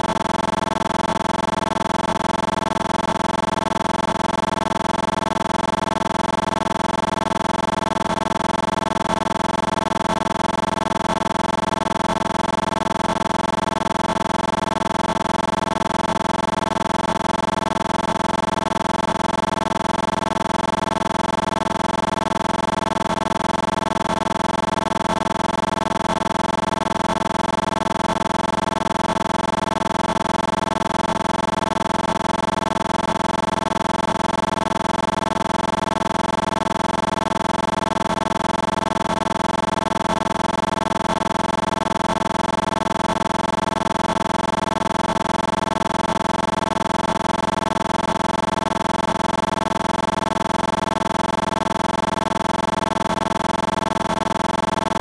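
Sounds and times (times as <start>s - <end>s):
steady multi-pitched hum: 0.0s - 55.0s.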